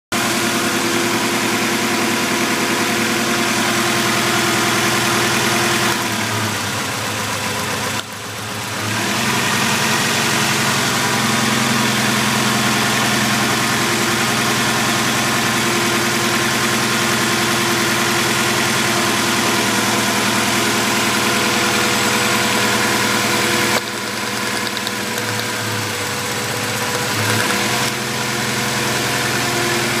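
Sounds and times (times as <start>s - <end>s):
car engine idling with misfire: 0.2s - 30.0s.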